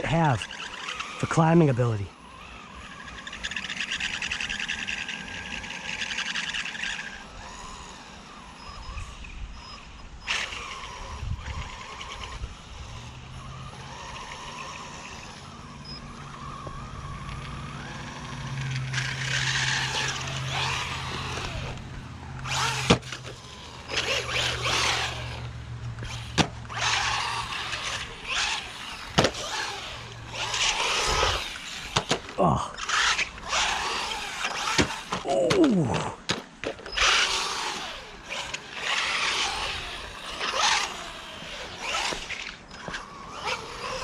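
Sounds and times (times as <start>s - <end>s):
rc car tires scrabbling: 0.0s - 44.0s
steady low hum: 0.0s - 44.0s.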